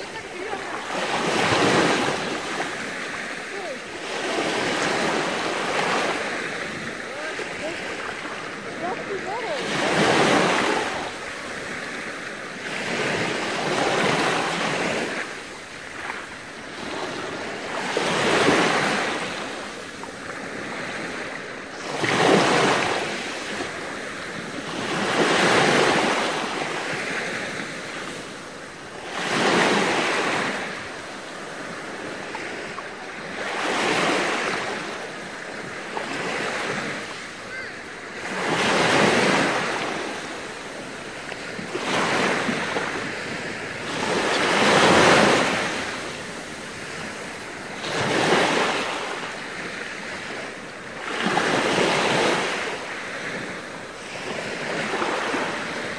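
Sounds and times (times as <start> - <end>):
small waves washing up shore: 0.0 - 55.9.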